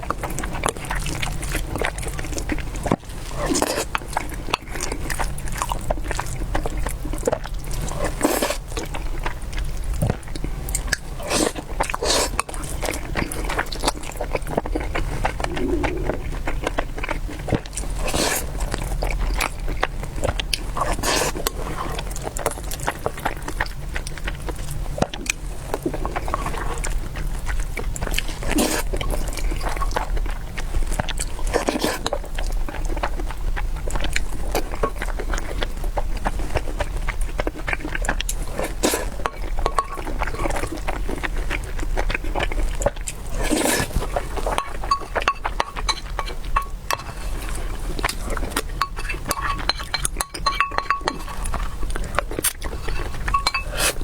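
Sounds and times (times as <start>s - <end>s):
chewing and biting food: 0.0s - 54.0s
low steady hum: 0.0s - 54.0s.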